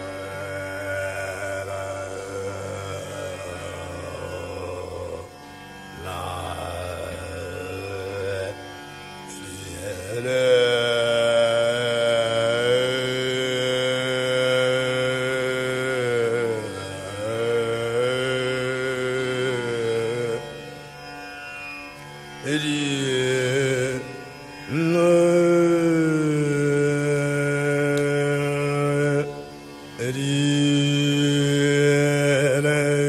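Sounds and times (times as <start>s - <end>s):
man singing long held notes: 0.0s - 20.7s, 22.4s - 33.0s.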